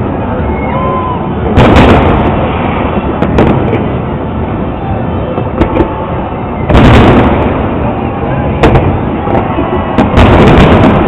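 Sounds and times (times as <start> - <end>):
continuous rumble: 0.0 - 11.0
fireworks booming: 0.9 - 11.0.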